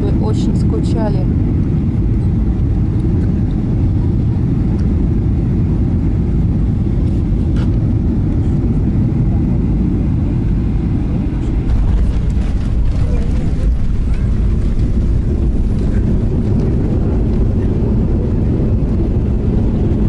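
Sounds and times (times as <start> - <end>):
airliner engines and airflow rumble: 0.0 - 20.0.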